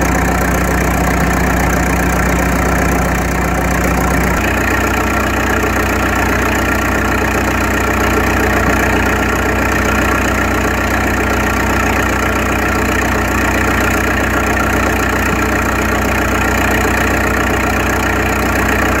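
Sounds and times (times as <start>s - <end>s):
air compressor running: 0.0s - 19.0s.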